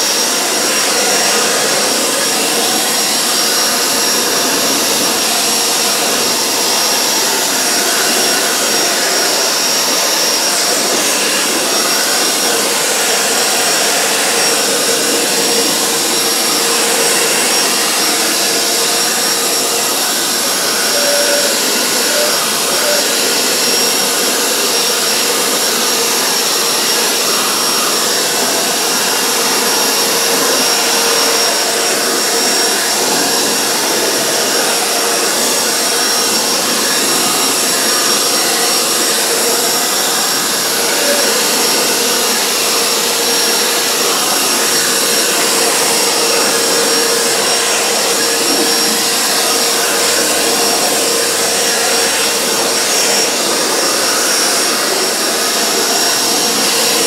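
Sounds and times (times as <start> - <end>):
electric leaf blower running: 0.0 - 57.0.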